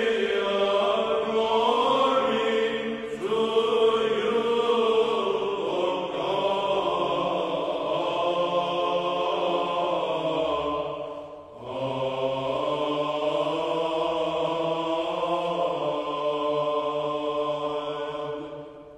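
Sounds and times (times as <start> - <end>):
voices singing chant: 0.0 - 18.9.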